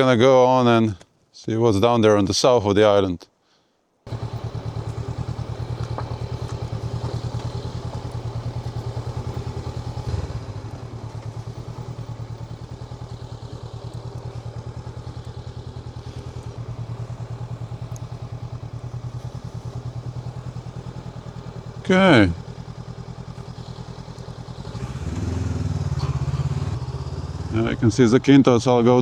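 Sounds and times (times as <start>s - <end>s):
motorcycle engine running: 4.1s - 29.0s.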